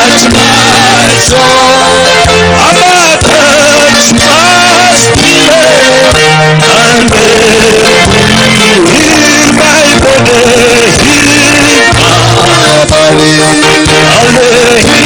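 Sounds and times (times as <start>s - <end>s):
singing over instrumental music: 0.0s - 15.0s.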